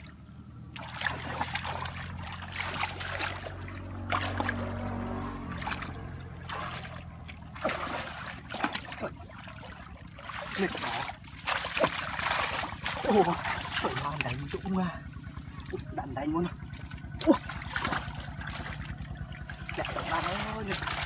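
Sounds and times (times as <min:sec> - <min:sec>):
hands splashing muddy water: 0:00.0 - 0:21.0
low steady hum: 0:00.0 - 0:21.0.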